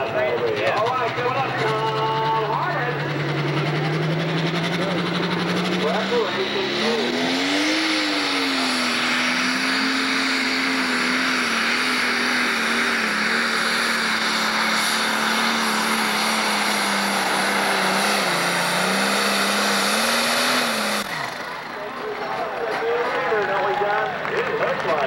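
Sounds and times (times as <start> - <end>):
diesel engine at full throttle: 0.0 - 25.0.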